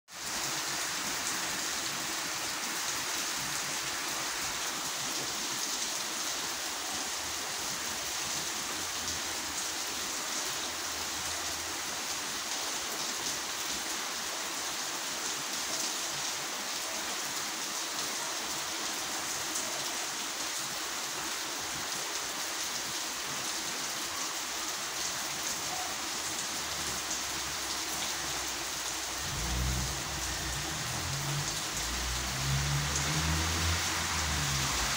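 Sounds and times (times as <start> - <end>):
steady rain on street: 0.1 - 34.9.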